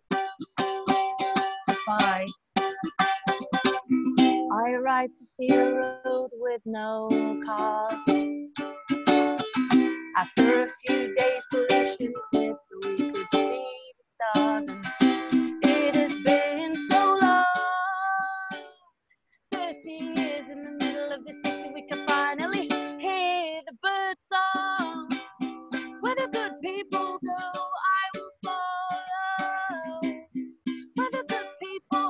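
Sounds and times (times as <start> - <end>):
strummed ukulele: 0.0 - 18.8, 19.5 - 32.0
woman singing: 1.3 - 2.8, 4.5 - 8.4, 9.7 - 18.8, 19.5 - 25.3, 26.0 - 30.3, 30.9 - 32.0.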